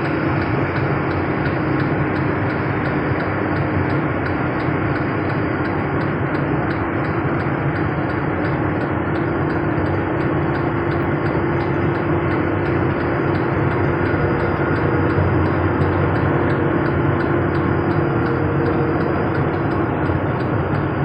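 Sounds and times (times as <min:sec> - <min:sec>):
truck driving on highway: 0:00.0 - 0:21.0.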